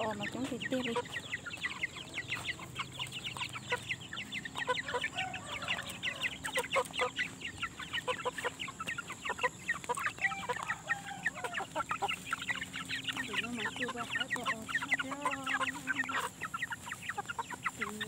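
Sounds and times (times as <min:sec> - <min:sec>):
chickens clucking: 0:00.0 - 0:18.0
high-pitched chick peeps: 0:00.0 - 0:18.0.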